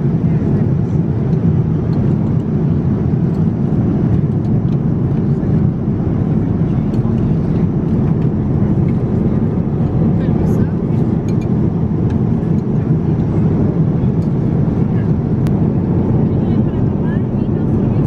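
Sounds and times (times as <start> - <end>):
airplane cabin noise: 0.0 - 18.0.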